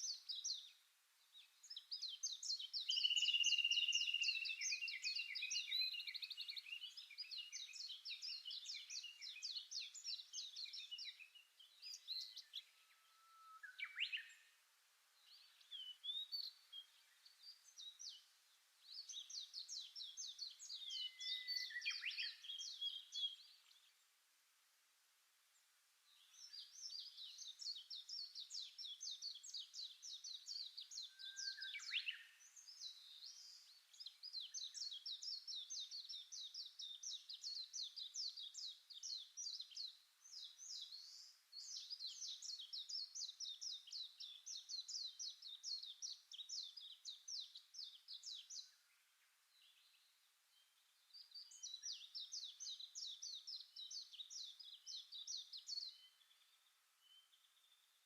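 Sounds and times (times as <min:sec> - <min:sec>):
songbird chirping: 0:00.0 - 0:58.0.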